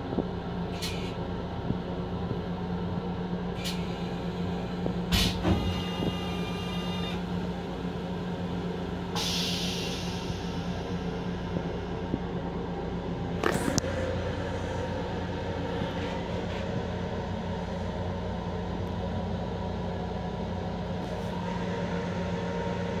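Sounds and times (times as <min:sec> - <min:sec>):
electric railcar hum and rumble: 0:00.0 - 0:23.0.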